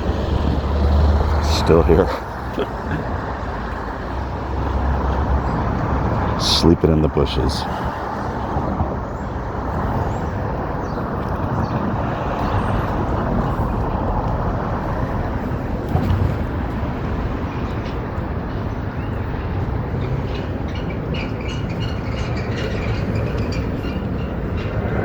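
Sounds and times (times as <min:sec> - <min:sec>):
street traffic passing: 0:00.0 - 0:25.0.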